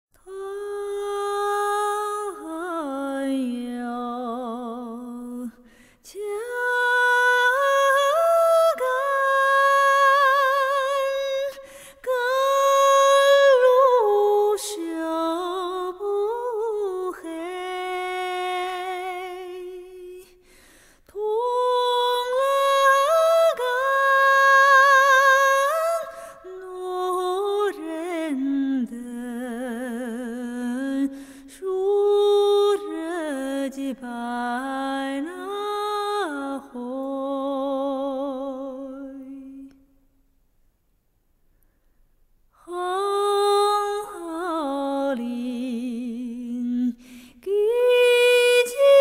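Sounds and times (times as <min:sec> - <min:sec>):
woman singing wordless melody: 0:00.2 - 0:40.1, 0:42.5 - 0:49.0.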